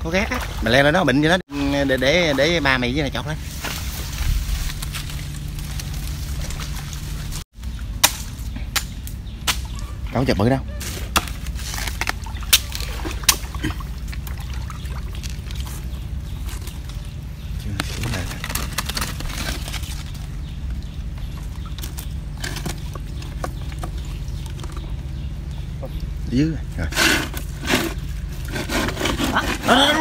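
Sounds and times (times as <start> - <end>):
water sloshing: 0.0 - 7.9, 9.7 - 26.2
steady low rumble: 0.0 - 28.6.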